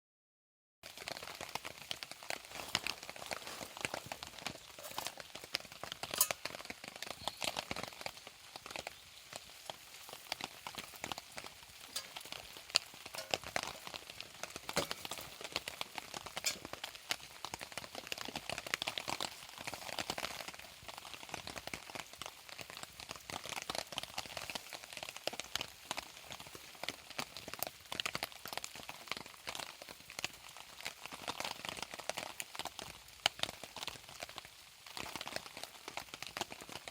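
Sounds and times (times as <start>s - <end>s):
campfire crackling and popping: 0.8s - 36.9s
rain pattering: 0.8s - 36.9s.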